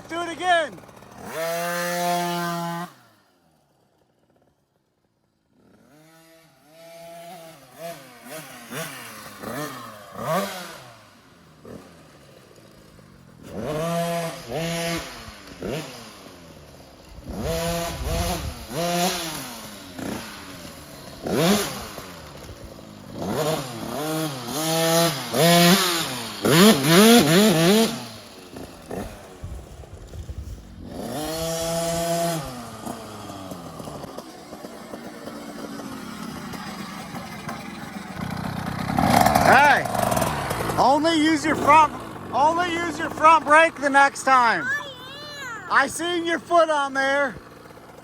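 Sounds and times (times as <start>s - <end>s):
two-stroke motorcycle engine revving: 0.0s - 4.6s, 5.4s - 48.0s.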